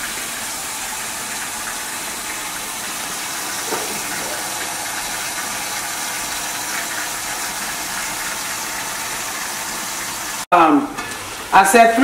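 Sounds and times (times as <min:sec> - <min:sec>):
covered pots hissing on gas stove: 0:00.0 - 0:12.0.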